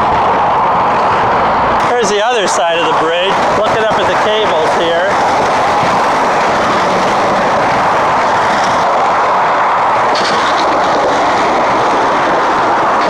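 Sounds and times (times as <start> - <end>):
traffic passing on bridge: 0.0 - 13.0
wind: 0.0 - 13.0.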